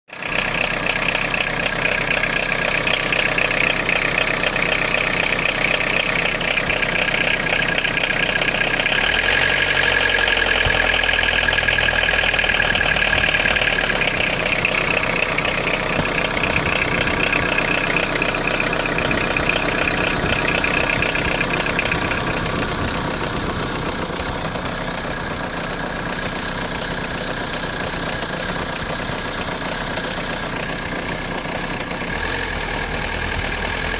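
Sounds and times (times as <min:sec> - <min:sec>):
diesel engine idling roughly: 0:00.1 - 0:33.9.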